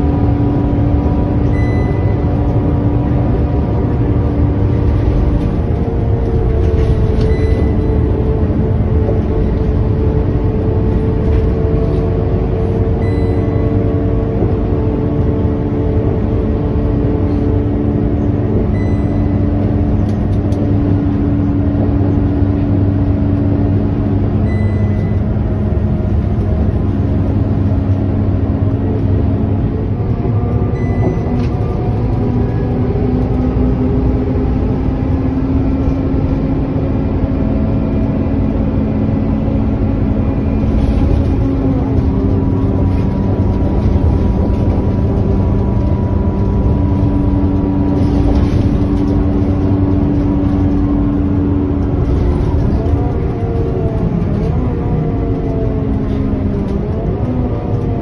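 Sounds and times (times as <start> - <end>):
bus diesel engine droning: 0.0 - 58.0
road rumble: 0.0 - 58.0.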